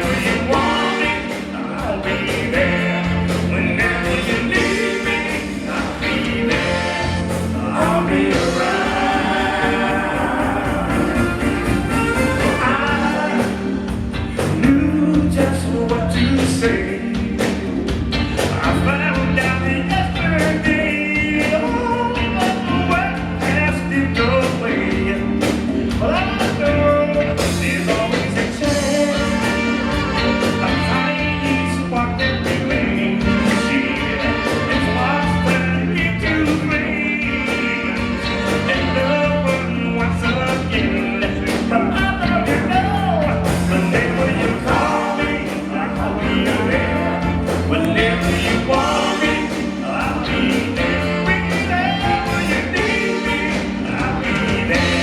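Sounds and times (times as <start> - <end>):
person singing: 0.0 - 17.8, 18.4 - 55.0
live disco soul band: 0.0 - 55.0.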